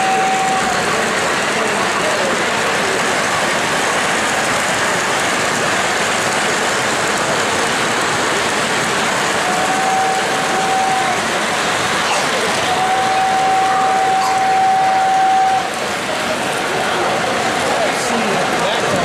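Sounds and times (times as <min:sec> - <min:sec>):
model train wheels rolling: 0:00.0 - 0:19.0.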